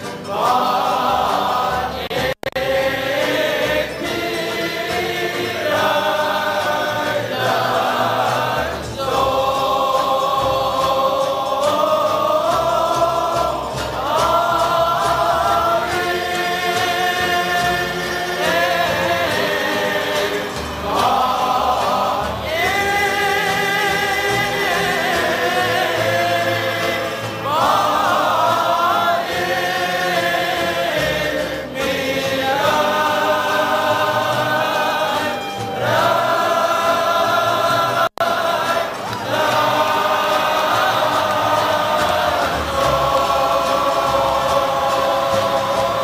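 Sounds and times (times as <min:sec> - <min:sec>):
cello: 0:00.0 - 0:46.0
double bass: 0:00.0 - 0:46.0
guitar: 0:00.0 - 0:46.0
male choir singing: 0:00.0 - 0:46.0
violin: 0:00.0 - 0:46.0.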